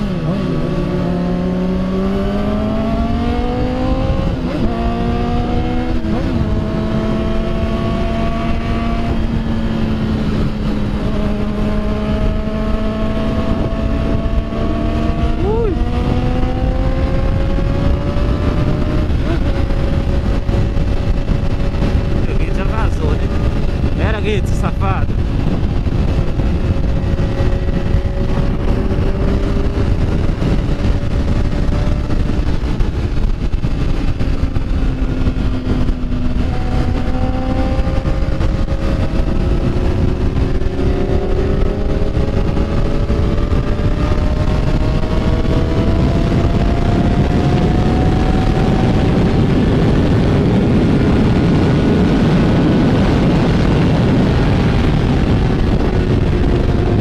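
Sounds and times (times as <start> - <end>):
motorcycle engine running: 0.0 - 57.0
wind rush over microphone: 0.0 - 57.0.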